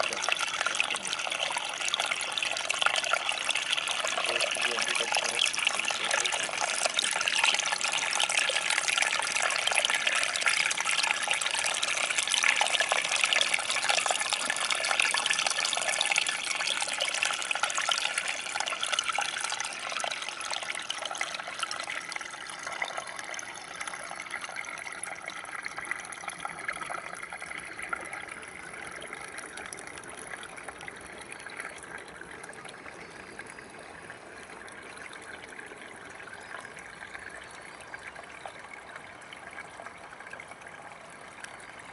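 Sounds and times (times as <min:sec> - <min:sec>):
creek trickling over rocks: 0:00.0 - 0:41.9.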